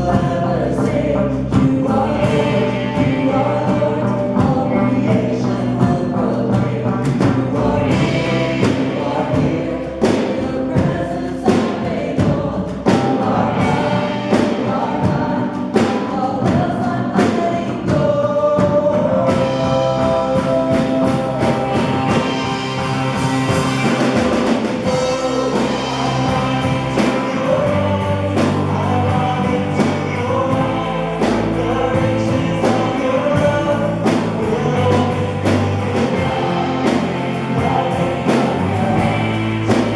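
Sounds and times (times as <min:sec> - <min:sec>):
steady drum beat: 0:00.0 - 0:39.9
voices singing together: 0:00.0 - 0:39.9
worship band playing: 0:00.0 - 0:39.9.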